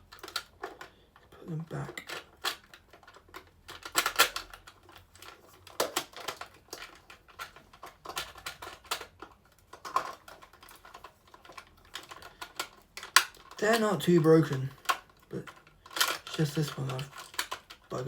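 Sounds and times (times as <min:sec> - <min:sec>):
plastic toy clicking: 0:00.0 - 0:18.0.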